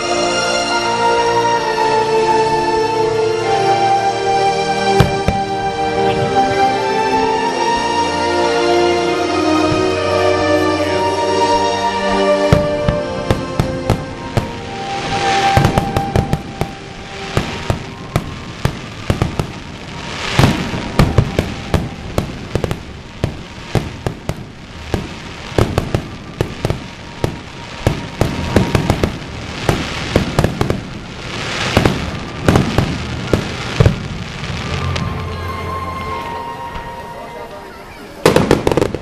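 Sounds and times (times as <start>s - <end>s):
fireworks crackling hiss: 0.0s - 39.0s
fireworks bangs: 4.6s - 39.0s.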